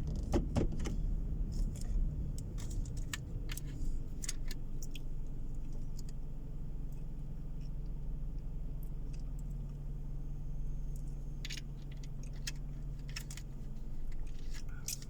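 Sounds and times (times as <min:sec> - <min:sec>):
interior clicks and rattles: 0:00.0 - 0:10.0, 0:10.8 - 0:15.0
car engine and road drone: 0:00.0 - 0:15.0.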